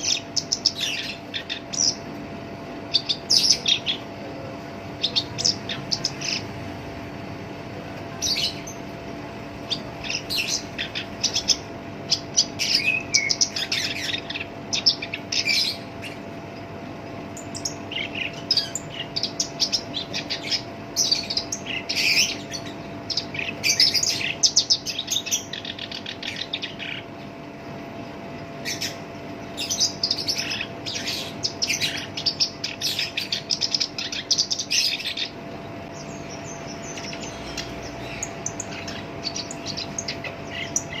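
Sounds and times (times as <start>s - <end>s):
reed warbler singing: 0.0s - 7.5s, 8.1s - 27.4s, 28.5s - 41.0s
faint steady hum: 0.0s - 41.0s.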